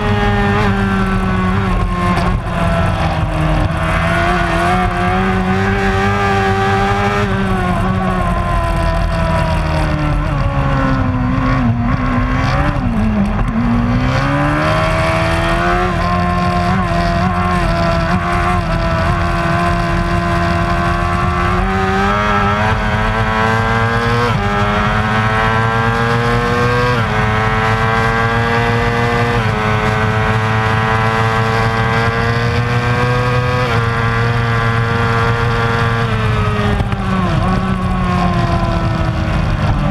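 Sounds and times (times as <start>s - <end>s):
motorbike engine at high revs: 0.0s - 39.9s.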